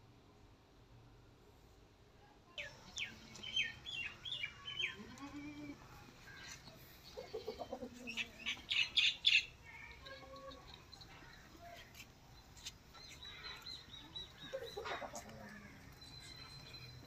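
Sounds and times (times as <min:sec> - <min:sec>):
birds chirping: 0:02.6 - 0:17.0.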